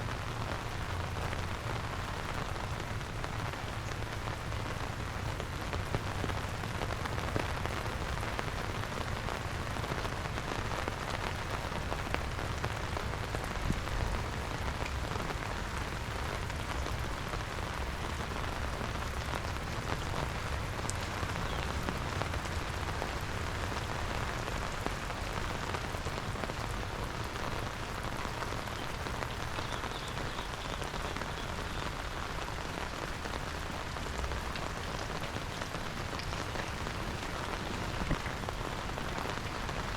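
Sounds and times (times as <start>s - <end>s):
steady rain on wet ground: 0.0s - 39.9s.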